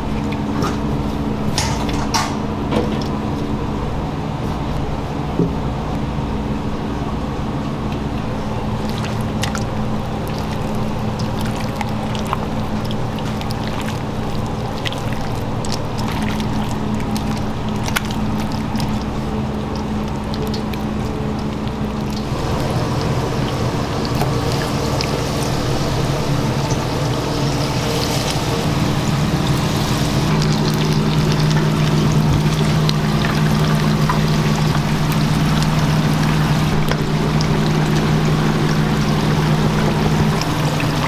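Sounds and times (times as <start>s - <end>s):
mechanical hum: 0.0s - 41.0s
water pouring and bubbling: 0.0s - 41.0s.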